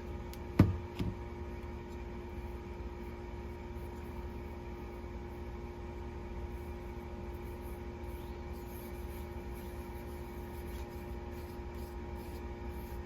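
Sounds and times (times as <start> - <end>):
low machine hum with tones: 0.0 - 13.0.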